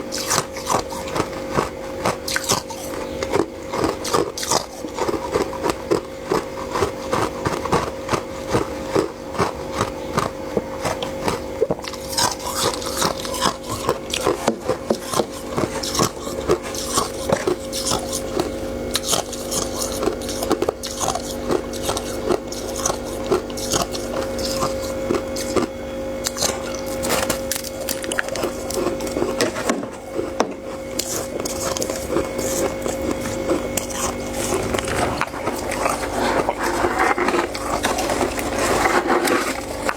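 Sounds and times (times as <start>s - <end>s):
chewing crunchy frost: 0.0s - 39.9s
steady low hum: 0.0s - 39.9s.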